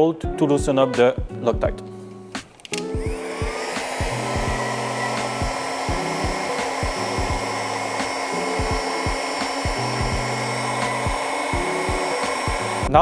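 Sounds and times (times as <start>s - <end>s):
heat gun fan blowing: 0.6s - 13.0s.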